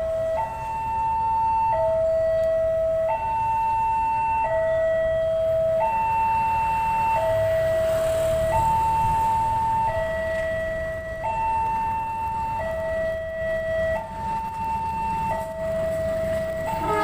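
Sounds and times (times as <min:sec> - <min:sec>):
two-tone level crossing alarm: 0:00.0 - 0:17.0.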